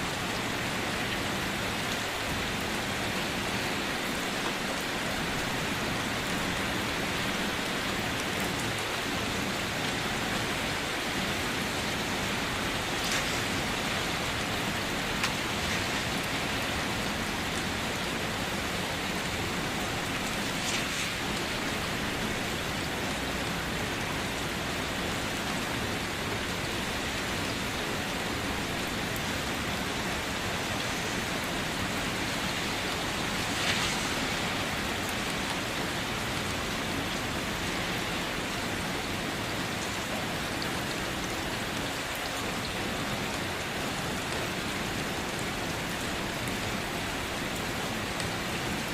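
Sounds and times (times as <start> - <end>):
steady rain hissing: 0.0 - 48.9.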